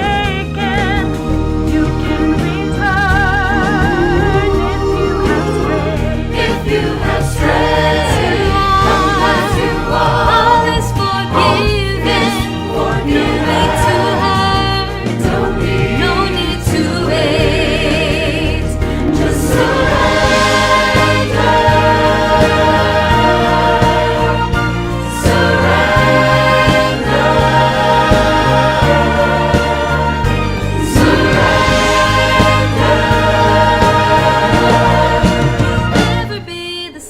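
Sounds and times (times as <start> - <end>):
instrumental accompaniment: 0.0 - 36.7
voices singing a hymn: 0.3 - 36.5.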